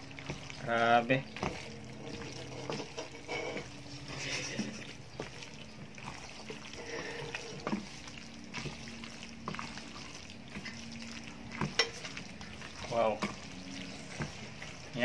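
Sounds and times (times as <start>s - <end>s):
spatula stirring wet pasta: 0.0s - 15.0s.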